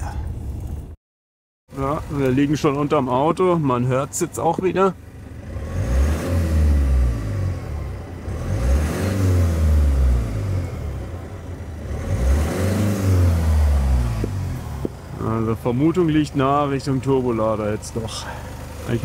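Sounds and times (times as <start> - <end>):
diesel engine revving: 1.7 - 19.0.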